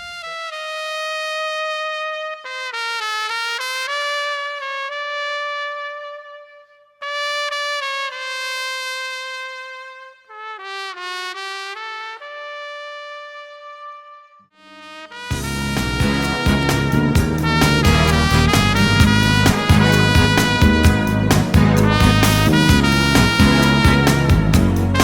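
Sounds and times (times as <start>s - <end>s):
solo trumpet slow melody: 0.0s - 25.0s.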